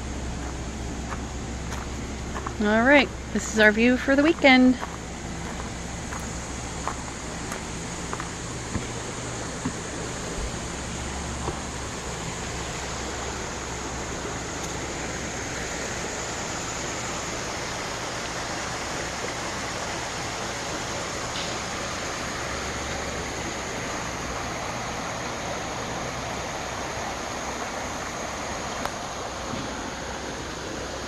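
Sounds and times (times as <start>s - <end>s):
faint low engine hum: 0.0s - 31.0s
stream rushing over rocks: 4.8s - 31.0s.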